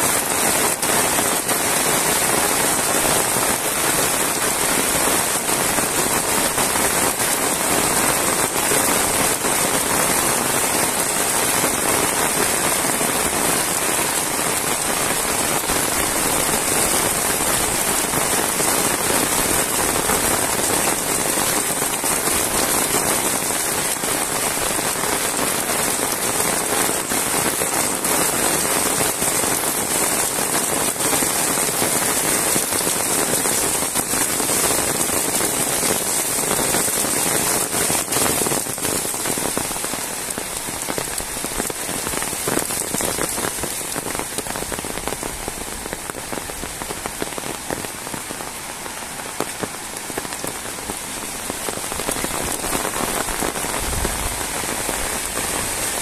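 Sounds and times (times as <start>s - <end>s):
heavy rain on road and grass: 0.0s - 56.0s.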